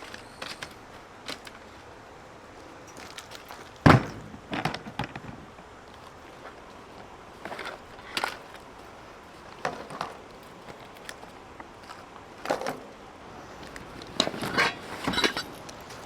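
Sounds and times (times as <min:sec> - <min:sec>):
camping gear knocking and clattering: 0:00.0 - 0:16.0.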